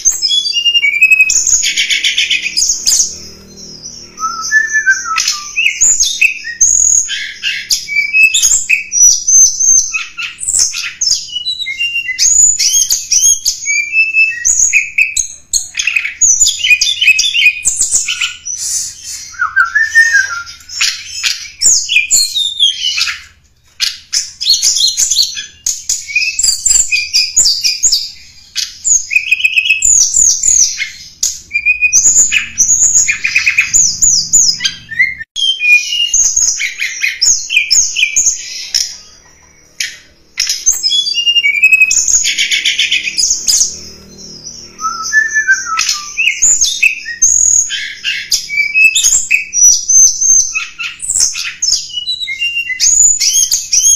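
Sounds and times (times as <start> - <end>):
bird singing chirps and trills: 0.0 - 53.9.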